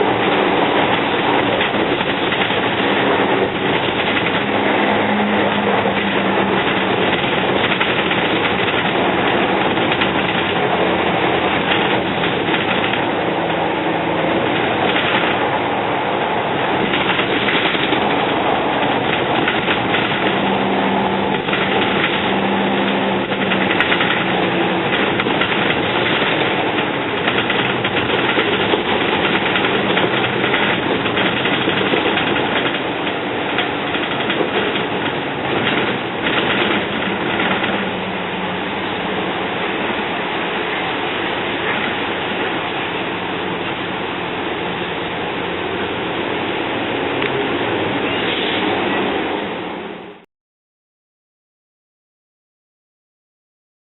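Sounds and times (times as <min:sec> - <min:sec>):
bus engine and road noise: 0:00.0 - 0:50.3.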